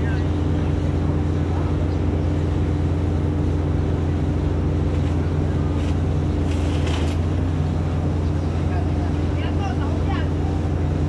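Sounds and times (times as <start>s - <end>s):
hydraulic power unit droning: 0.0s - 11.0s.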